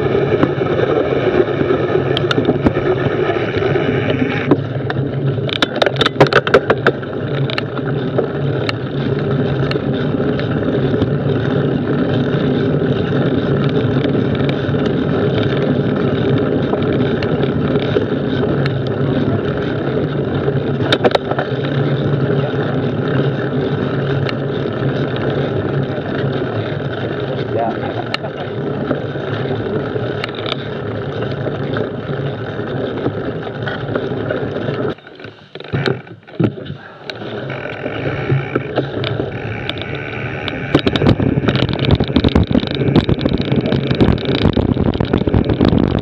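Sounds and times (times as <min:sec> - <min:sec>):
bike tyres rumbling on dirt: 0:00.0 - 0:46.0
sharp rattling clicks: 0:01.3 - 0:46.0.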